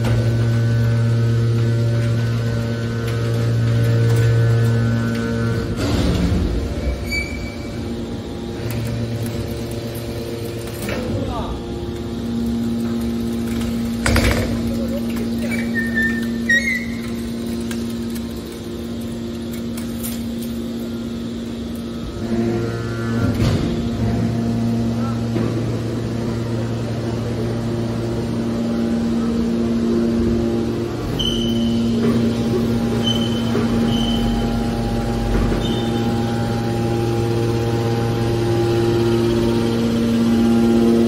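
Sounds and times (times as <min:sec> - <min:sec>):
baler motor and pump humming: 0:00.0 - 0:41.0.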